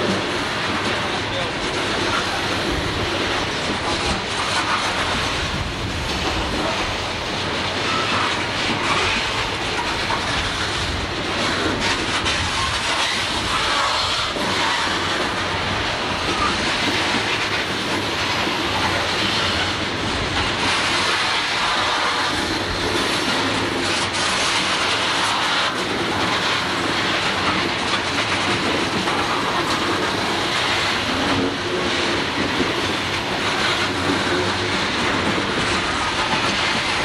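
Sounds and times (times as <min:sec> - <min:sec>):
steel train wheels on rail: 0:00.0 - 0:37.0.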